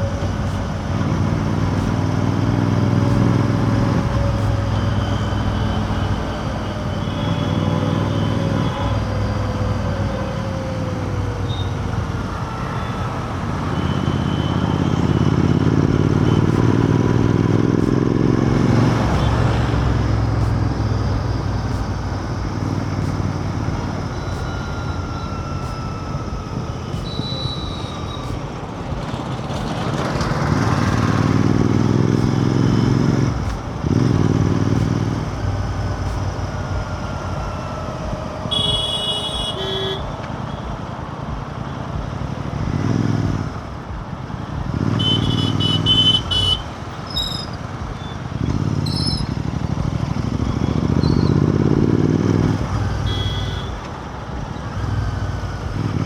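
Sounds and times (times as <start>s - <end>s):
motorcycle engine revving: 0.0s - 56.0s
road noise: 0.0s - 56.0s.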